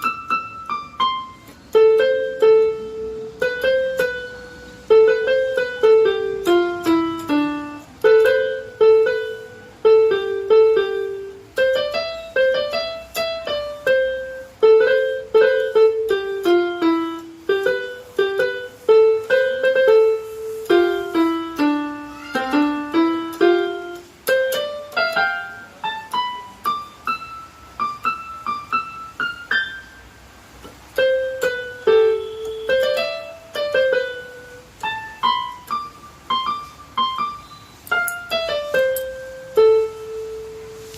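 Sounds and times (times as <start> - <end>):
keyboard piano melody: 0.0 - 40.9.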